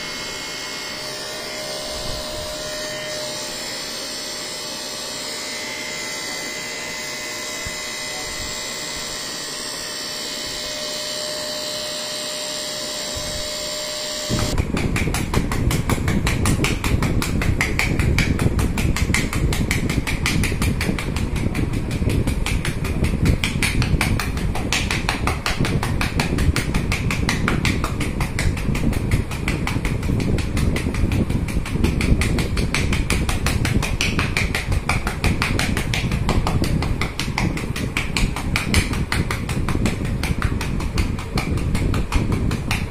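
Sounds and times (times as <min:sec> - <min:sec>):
electric massager whining: 0:00.0 - 0:42.9
massager rapid pulsing buzz: 0:00.0 - 0:42.9.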